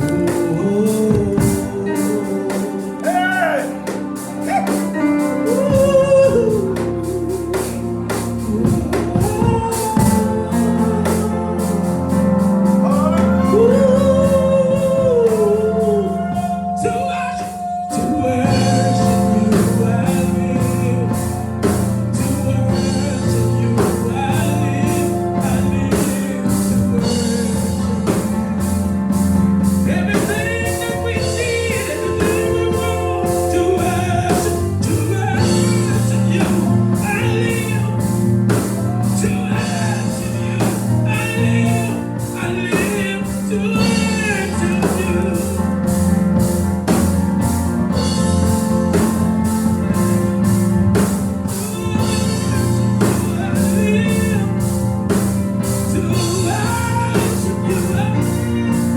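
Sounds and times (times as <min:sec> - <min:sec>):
instrumental backing: 0:00.0 - 0:58.9
person singing: 0:00.0 - 0:58.9
steady drum beat: 0:00.0 - 0:58.9.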